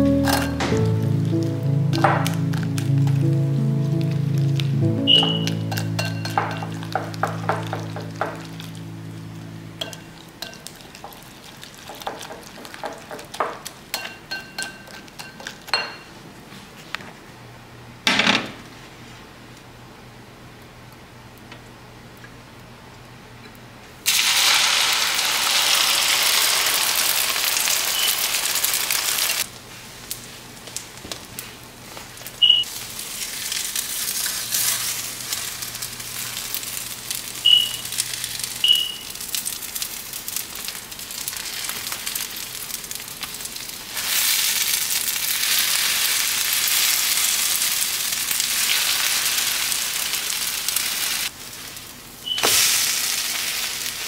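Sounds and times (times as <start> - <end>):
egg sizzling in a frying pan: 0.0 - 16.0, 24.0 - 54.0.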